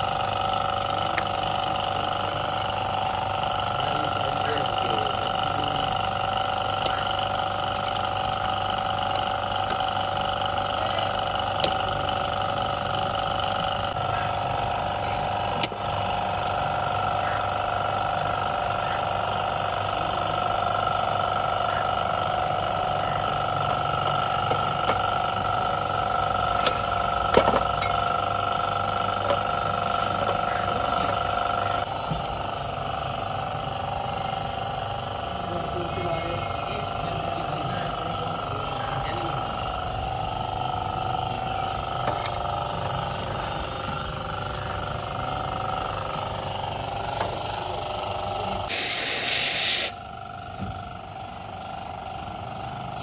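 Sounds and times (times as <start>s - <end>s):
pressure washer running: 0.0s - 53.0s.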